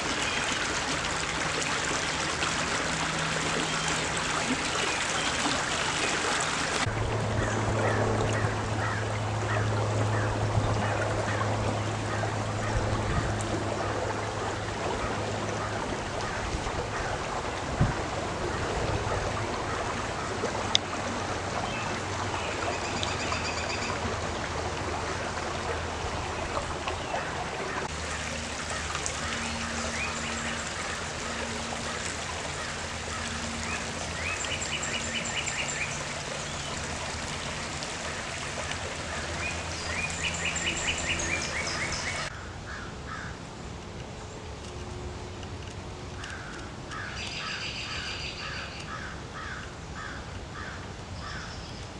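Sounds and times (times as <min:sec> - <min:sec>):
creek water over rocks: 0:00.0 - 0:51.9
low steady hum: 0:06.3 - 0:51.2.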